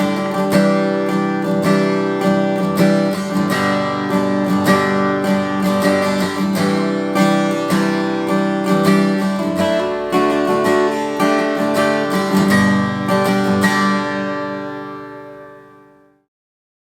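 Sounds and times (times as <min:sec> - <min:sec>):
acoustic guitar strumming chords: 0:00.0 - 0:16.2.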